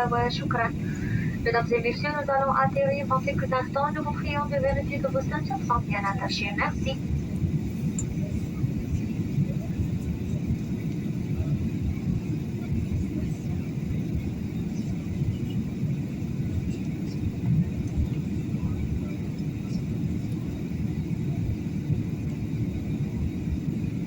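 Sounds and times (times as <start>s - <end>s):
airliner engine and airflow rumble: 0.0s - 24.0s.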